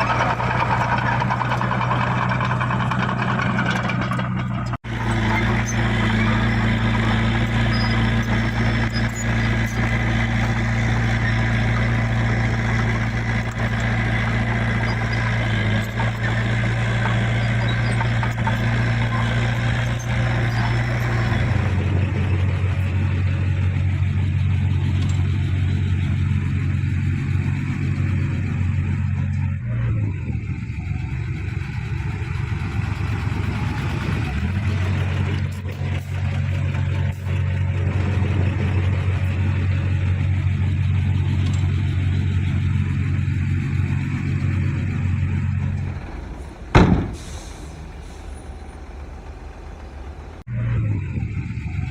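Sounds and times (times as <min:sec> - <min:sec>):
heavy diesel engine running: 0:00.0 - 0:51.9.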